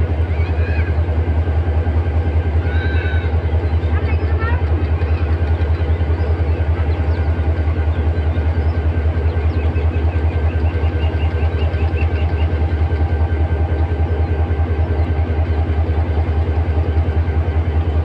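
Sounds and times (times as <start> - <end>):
diesel locomotive engine idling: 0.0 - 18.0.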